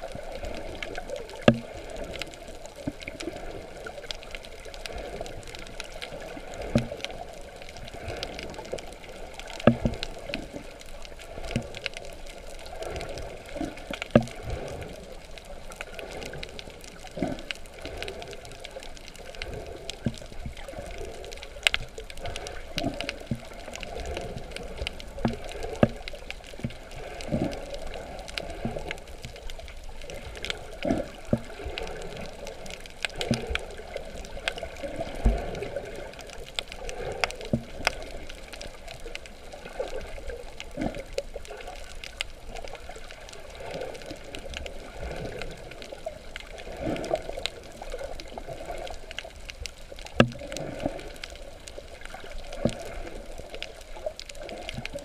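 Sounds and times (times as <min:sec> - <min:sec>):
water sloshing and gurgling: 0:00.0 - 0:55.0.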